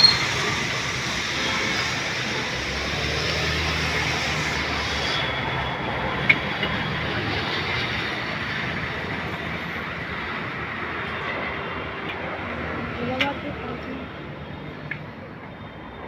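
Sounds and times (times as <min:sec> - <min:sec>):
moving vehicle rumbling: 0:00.0 - 0:16.0.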